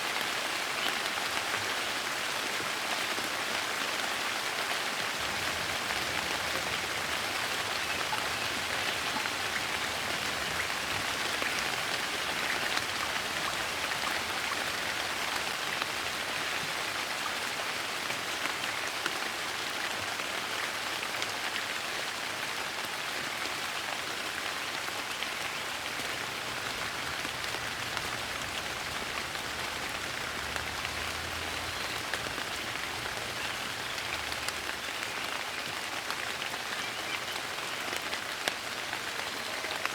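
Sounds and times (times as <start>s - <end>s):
gentle rain pattering: 0.0s - 39.9s.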